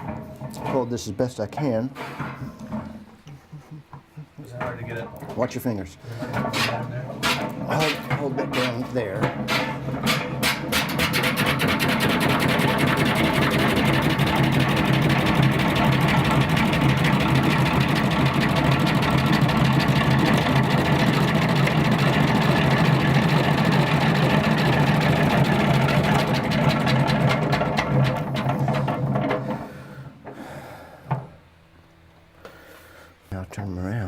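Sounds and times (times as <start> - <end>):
honey extractor rattling and whirring: 0.0 - 3.2, 4.4 - 31.5.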